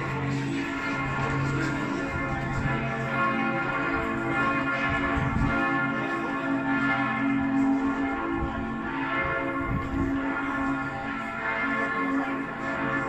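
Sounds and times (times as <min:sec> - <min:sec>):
church bells ringing in a peal: 0:00.0 - 0:13.0.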